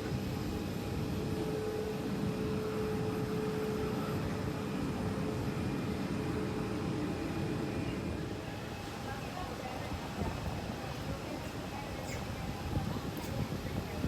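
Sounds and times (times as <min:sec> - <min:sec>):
airplane engine hum: 0:00.0 - 0:14.0.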